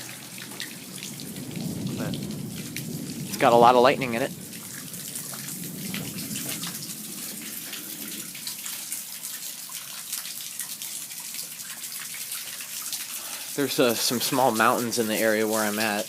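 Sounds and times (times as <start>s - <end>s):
rain falling and dripping: 0.0s - 16.0s.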